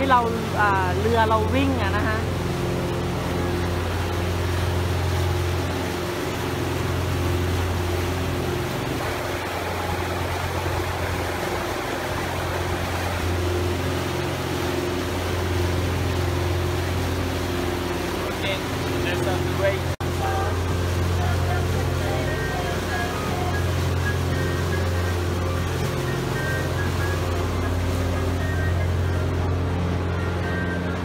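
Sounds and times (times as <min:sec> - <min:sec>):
boat engine humming: 0:00.0 - 0:31.0
wake churning: 0:00.0 - 0:31.0.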